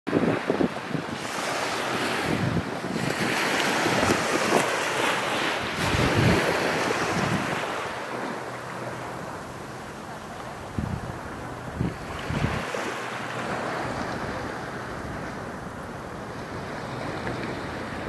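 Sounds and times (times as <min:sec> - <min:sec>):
small waves washing onto sand: 0:00.1 - 0:18.0
wind buffeting microphone: 0:00.1 - 0:18.0.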